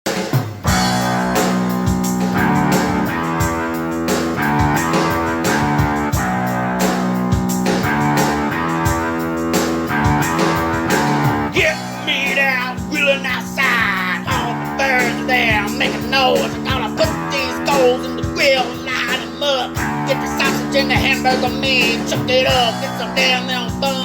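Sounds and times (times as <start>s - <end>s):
rock song with guitar and bass: 0.6s - 24.0s.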